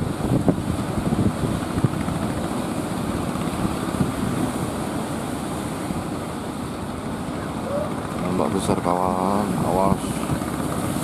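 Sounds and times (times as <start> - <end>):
heavy surf rumbling: 0.0 - 11.0
wind buffeting microphone: 0.0 - 11.0.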